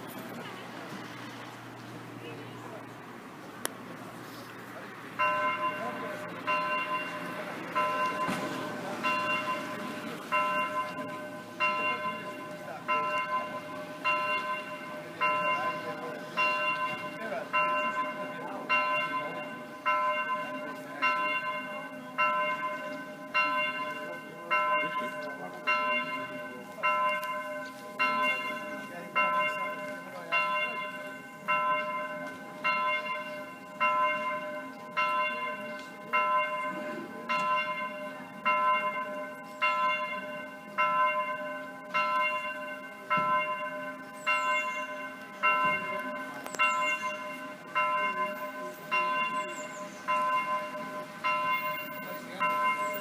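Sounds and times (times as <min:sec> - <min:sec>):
electronic church bell ringing: 0:05.2 - 0:53.0.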